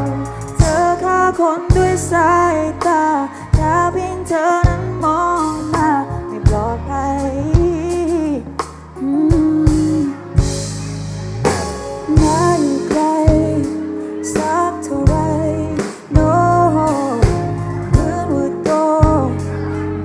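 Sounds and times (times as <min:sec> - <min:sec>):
pop song with drums and bass: 0:00.0 - 0:20.0.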